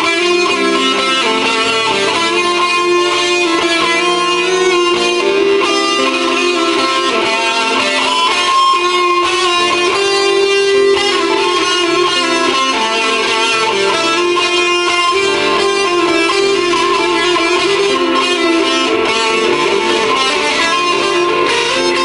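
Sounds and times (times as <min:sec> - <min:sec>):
electric guitar with reverb: 0:00.0 - 0:22.0.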